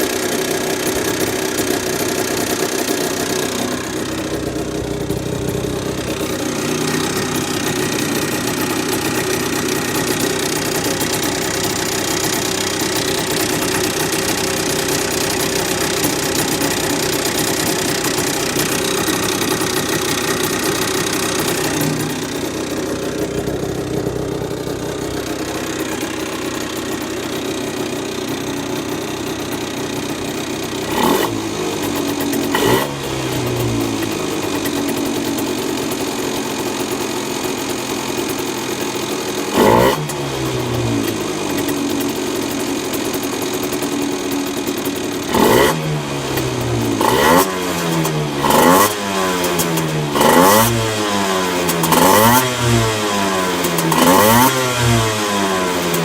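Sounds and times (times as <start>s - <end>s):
two-stroke engine idling and revving: 0.0s - 56.0s.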